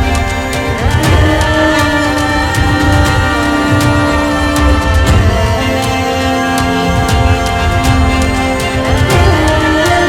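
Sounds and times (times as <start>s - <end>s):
dramatic theme music: 0.0s - 10.0s.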